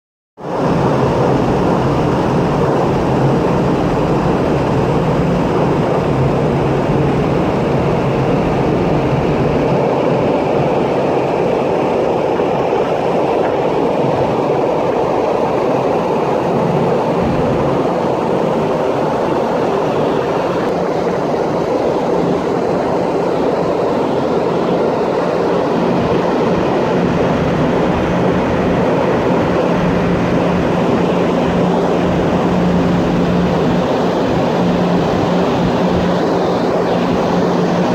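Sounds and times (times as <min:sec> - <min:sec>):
ship's wake rushing: 0:00.4 - 0:37.9
ship machinery hum: 0:00.5 - 0:37.9.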